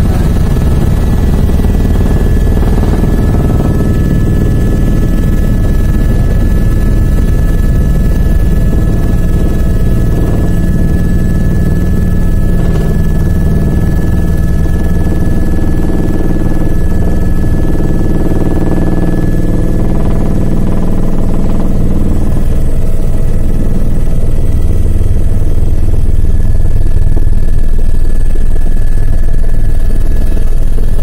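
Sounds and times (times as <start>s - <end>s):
helicopter rotor and engine drone: 0.0s - 31.0s
thin high whine: 0.0s - 31.0s.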